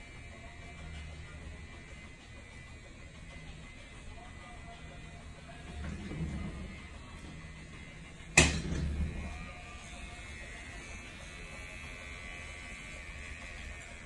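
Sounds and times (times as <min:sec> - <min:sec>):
microneedling pen humming: 0:00.0 - 0:14.0.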